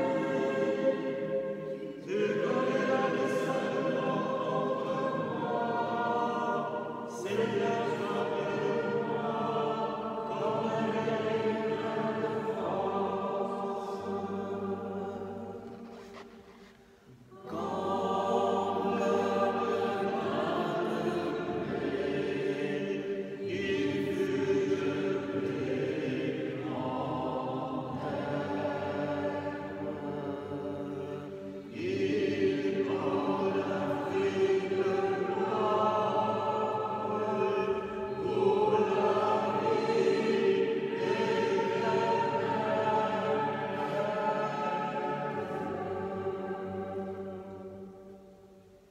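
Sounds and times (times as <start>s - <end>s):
choir chanting a hymn: 0.0s - 48.9s.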